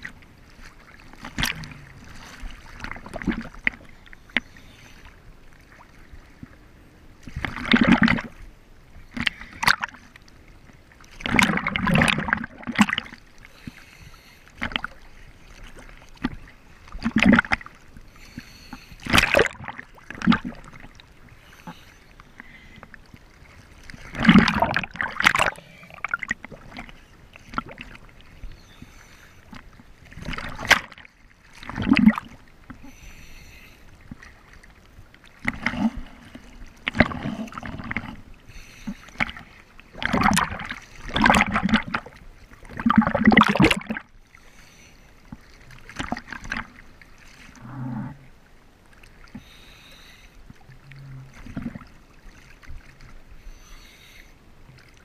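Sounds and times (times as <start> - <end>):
water splashing against camera: 0.0 - 5.2, 7.2 - 10.4, 11.0 - 48.2, 48.9 - 54.0
low wash of waves: 0.0 - 55.0.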